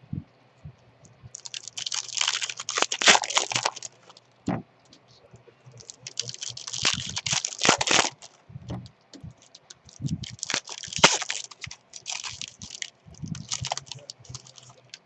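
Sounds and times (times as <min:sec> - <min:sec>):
wrappers and cards crinkling: 0:01.3 - 0:04.6, 0:05.6 - 0:08.5, 0:09.2 - 0:15.0.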